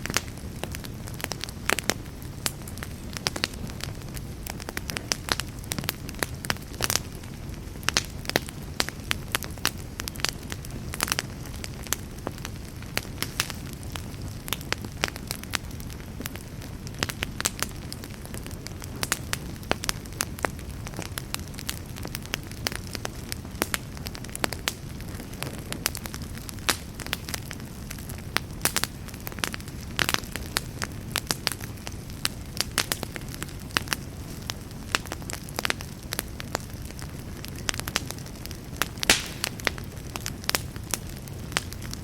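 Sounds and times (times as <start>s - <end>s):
campfire crackles and pops: 0.0s - 42.0s
campfire low rush: 0.0s - 42.0s.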